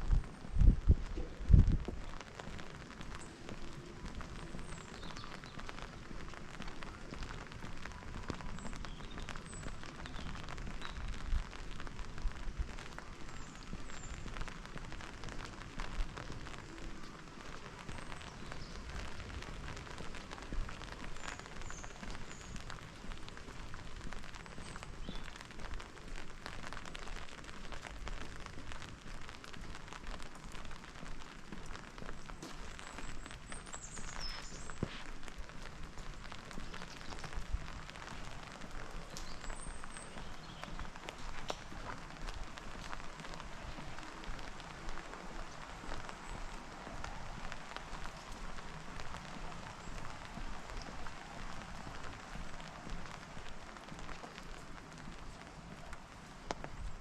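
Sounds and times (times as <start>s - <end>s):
rain pattering on pavement: 0.0s - 57.0s.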